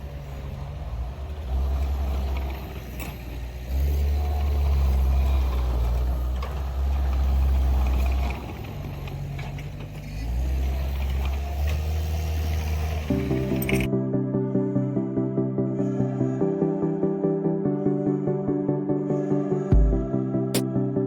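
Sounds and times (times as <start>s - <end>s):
skid steer engine droning: 0.0s - 21.0s.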